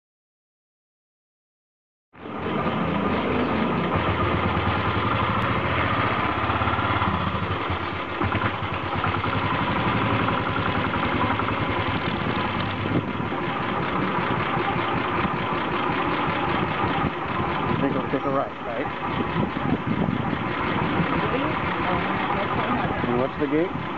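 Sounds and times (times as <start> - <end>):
motorcycle engine running: 2.2 - 23.9.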